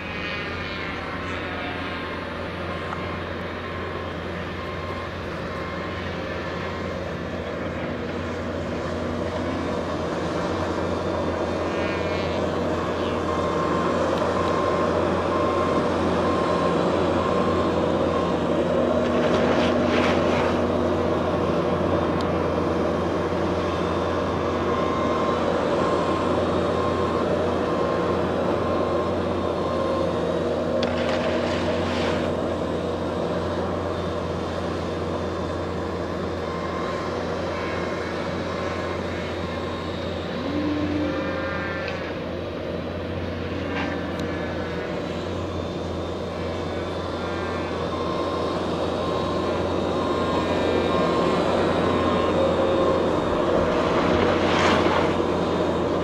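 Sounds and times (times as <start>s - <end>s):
model airplane motor droning: 0.0s - 56.0s.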